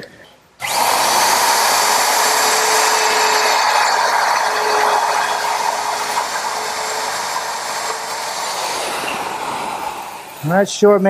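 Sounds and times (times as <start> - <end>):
router whining cutting wood: 0.6 - 10.4.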